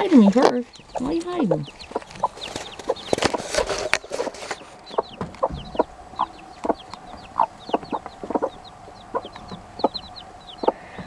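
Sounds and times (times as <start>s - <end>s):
chicks peeping: 0.0s - 11.0s
hens clucking: 0.0s - 11.0s.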